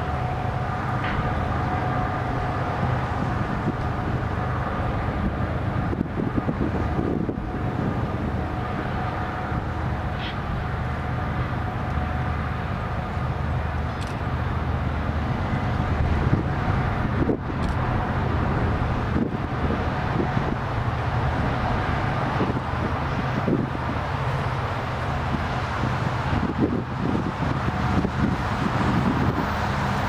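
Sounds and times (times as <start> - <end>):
distant diesel locomotives rumbling: 0.0 - 30.0.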